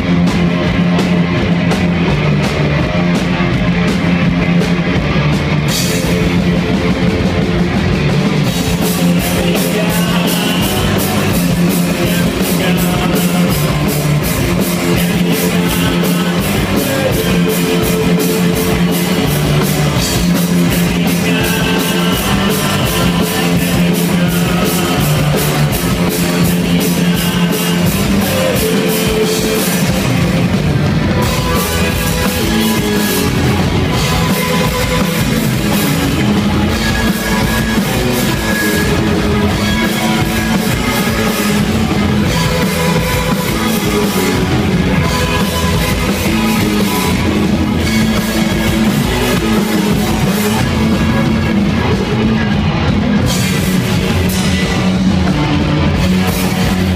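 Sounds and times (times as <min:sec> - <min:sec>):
driving cymbal beat: 0:00.0 - 0:56.9
drum kit: 0:00.0 - 0:56.9
electric guitars: 0:00.0 - 0:56.9.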